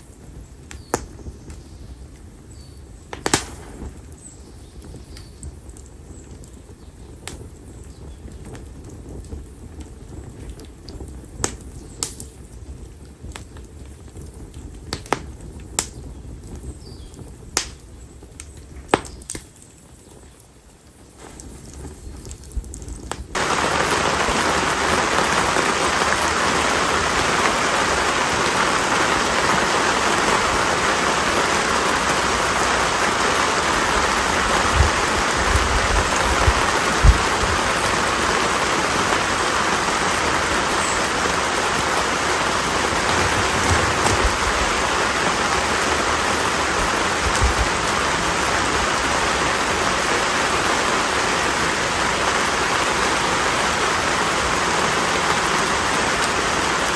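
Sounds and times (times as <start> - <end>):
rain hissing: 0.0 - 56.9.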